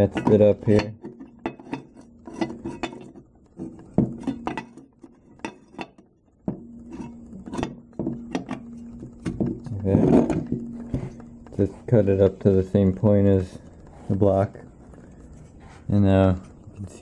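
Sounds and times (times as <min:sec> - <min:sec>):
metal engine parts clinking: 0:00.0 - 0:14.4.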